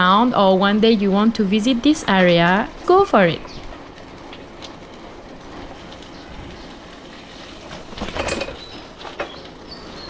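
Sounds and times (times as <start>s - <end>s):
bicycle road and wind noise: 0.0s - 10.0s.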